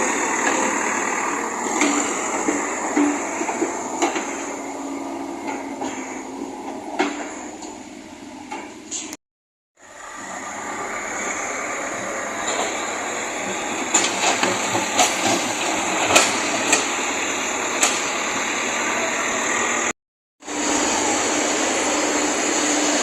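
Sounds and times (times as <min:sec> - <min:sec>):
backhoe loader working: 0:00.0 - 0:09.2, 0:09.8 - 0:23.0.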